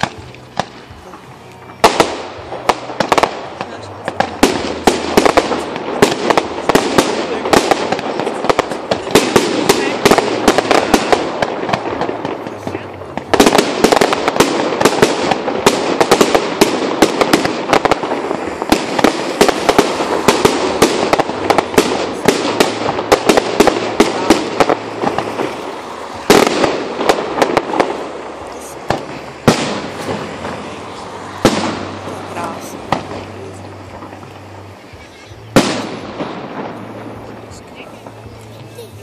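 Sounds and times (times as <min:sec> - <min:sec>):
fireworks crackling pops and bangs: 0:00.0 - 0:39.0
loud firework bang: 0:01.8 - 0:34.4, 0:35.5 - 0:38.2.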